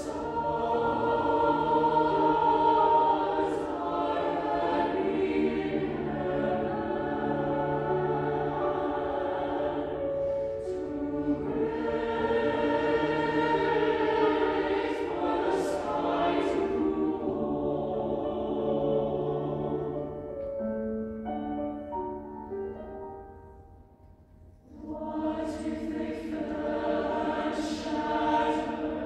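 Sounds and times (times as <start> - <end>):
choir singing sustained chords: 0.0 - 29.0.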